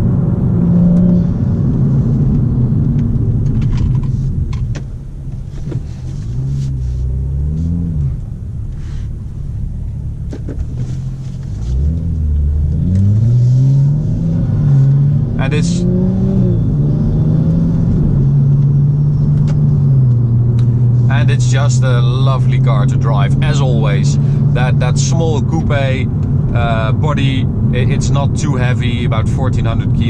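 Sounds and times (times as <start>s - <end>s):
car engine heard from inside: 0.0s - 30.0s.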